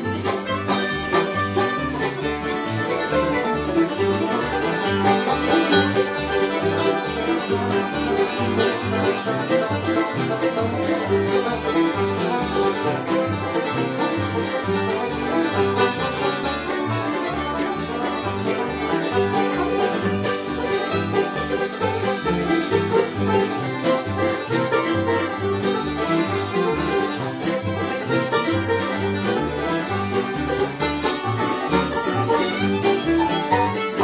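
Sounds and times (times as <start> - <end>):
banjo picking rapid rolls: 0.0 - 34.0
low bass notes: 0.0 - 34.0
strummed guitar: 0.0 - 34.0.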